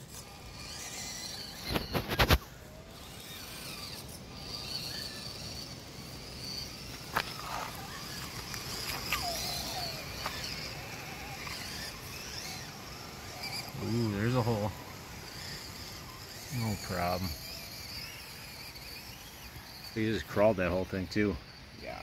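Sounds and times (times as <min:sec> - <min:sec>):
outdoor background noise: 0:00.0 - 0:22.0
small electric motor whirring: 0:00.0 - 0:22.0
tyres working through mud: 0:00.0 - 0:22.0.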